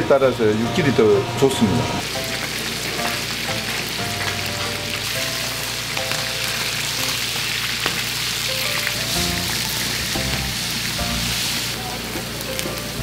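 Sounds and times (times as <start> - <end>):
light background music: 0.0 - 13.0
fish sizzling in hot oil: 2.0 - 13.0.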